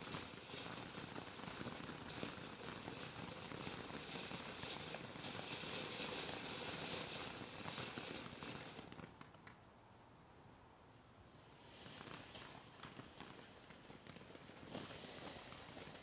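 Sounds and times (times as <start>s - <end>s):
firework fountain hissing: 0.0s - 9.4s, 11.0s - 16.0s
faint crackles: 0.0s - 9.8s, 10.5s - 16.0s.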